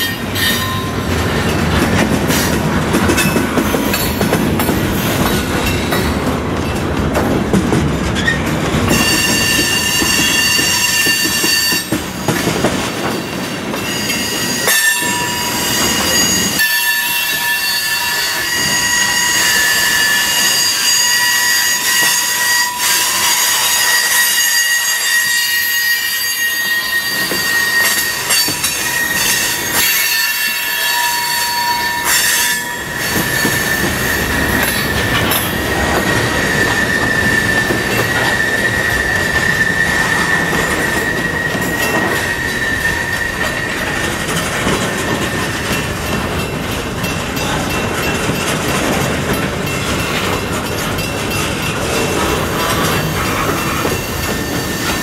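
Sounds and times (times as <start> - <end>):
train wheels rumbling and clattering: 0.0 - 55.0
wheel flanges squealing: 8.2 - 12.4, 13.1 - 46.7, 47.4 - 55.0.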